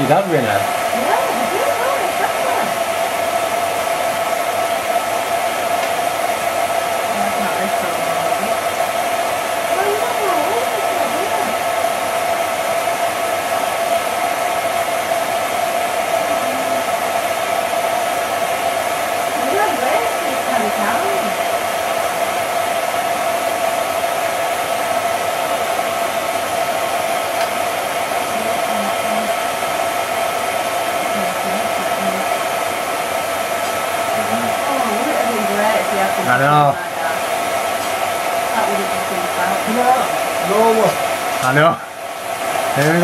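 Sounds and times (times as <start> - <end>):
film projector whirring hum: 0.0 - 43.0.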